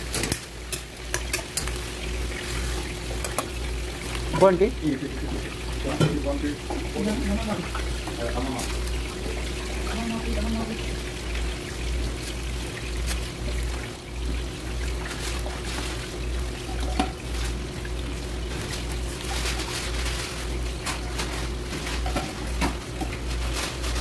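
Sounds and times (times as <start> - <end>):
broth boiling and bubbling: 0.0 - 24.0.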